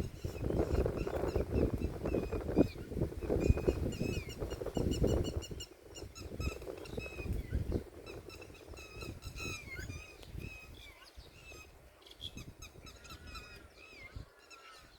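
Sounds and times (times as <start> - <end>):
small birds chirping: 0.0 - 14.9
wind on microphone: 0.0 - 14.9.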